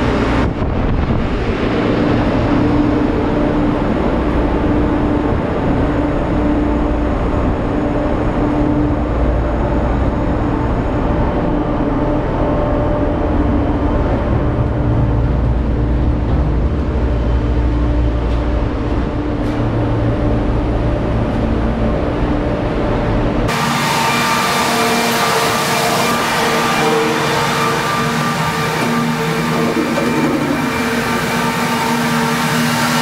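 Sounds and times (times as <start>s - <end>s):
ship machinery drone: 0.0s - 33.0s
steady hum: 0.0s - 33.0s.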